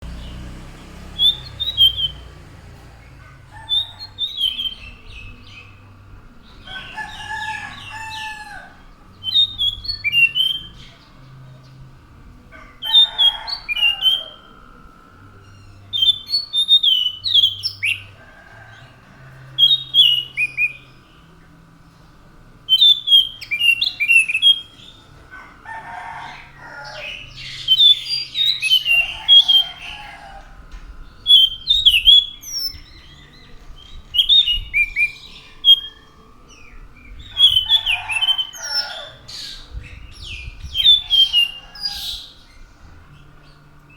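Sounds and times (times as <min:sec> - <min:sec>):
thrush whistling song: 0:00.0 - 0:11.8, 0:12.6 - 0:18.9, 0:19.5 - 0:21.4, 0:22.7 - 0:25.2, 0:26.9 - 0:43.9
bird warbling: 0:01.1 - 0:21.6, 0:22.5 - 0:43.9.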